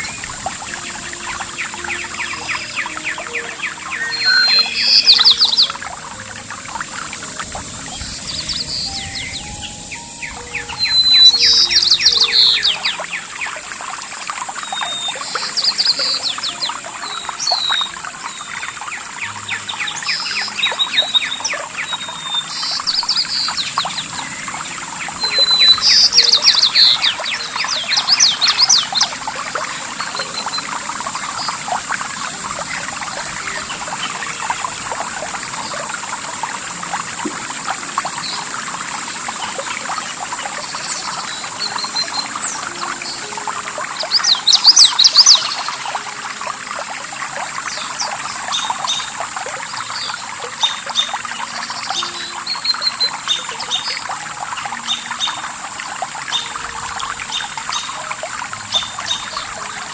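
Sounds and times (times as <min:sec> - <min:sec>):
songbird singing: 0:00.0 - 0:59.9
stream babbling: 0:00.0 - 0:59.9.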